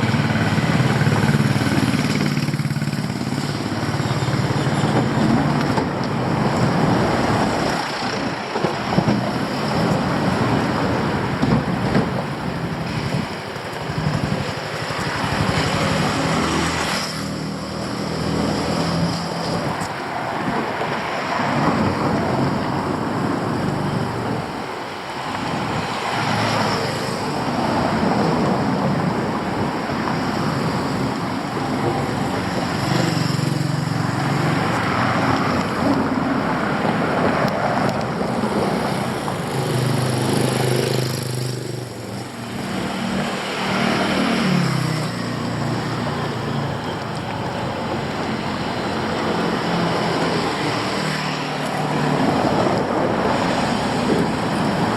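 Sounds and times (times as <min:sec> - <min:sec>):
road noise: 0:00.0 - 0:54.9
vehicles passing close: 0:00.0 - 0:54.9.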